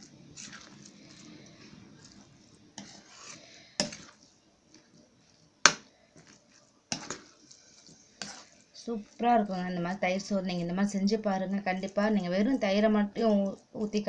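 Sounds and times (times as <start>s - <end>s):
spoon stirring food: 0.0s - 14.0s.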